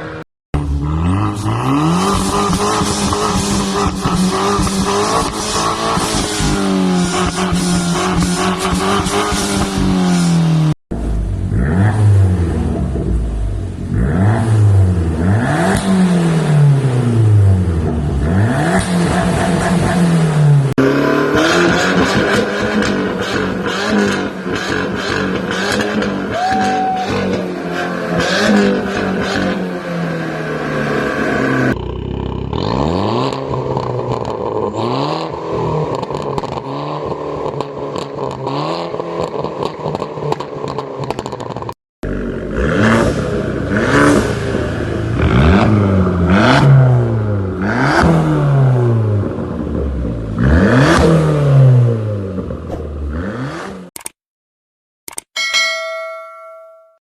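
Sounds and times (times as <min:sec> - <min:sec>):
car engine revving: 0:00.0 - 0:26.3, 0:27.0 - 0:53.9.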